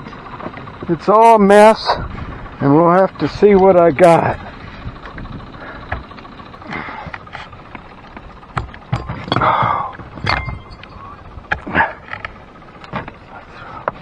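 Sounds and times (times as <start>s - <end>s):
gear knocking in a boat: 0.2s - 14.0s.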